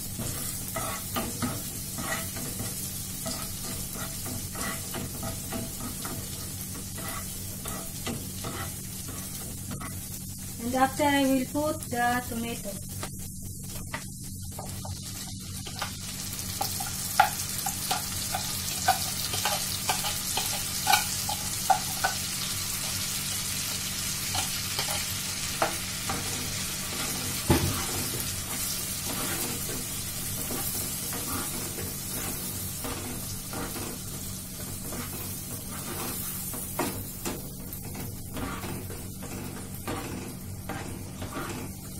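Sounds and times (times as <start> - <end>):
tomato sizzling in frying pan: 0.0 - 41.9.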